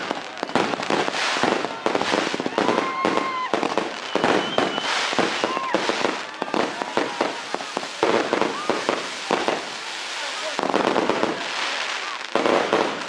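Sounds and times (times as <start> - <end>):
firework whistles: 0.0 - 13.0
fireworks bangs and crackling: 0.0 - 13.0.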